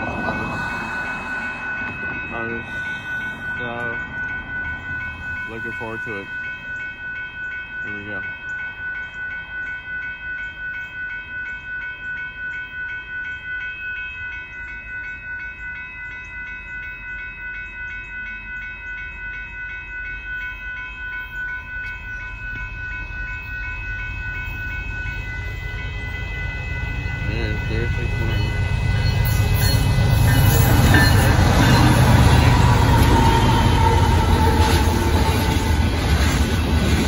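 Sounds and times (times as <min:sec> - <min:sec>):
railroad crossing bell ringing: 0:00.0 - 0:37.0.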